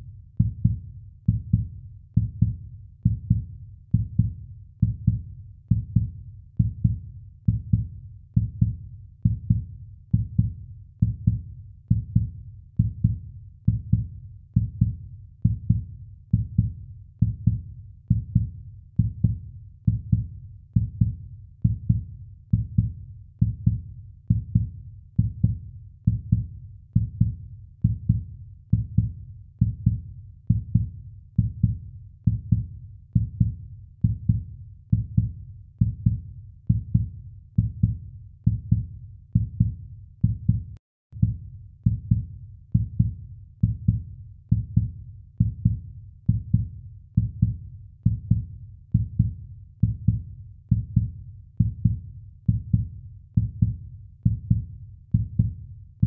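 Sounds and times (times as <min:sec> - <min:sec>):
heartbeat thumps: 0:00.4 - 0:55.6.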